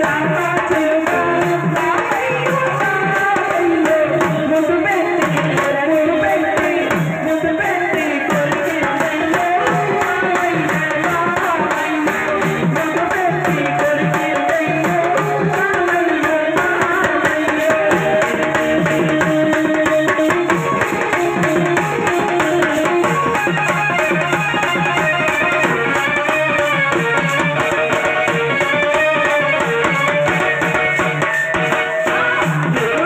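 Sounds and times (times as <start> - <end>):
steady drum beat: 0.0 - 33.0
woman singing amplified: 0.0 - 33.0.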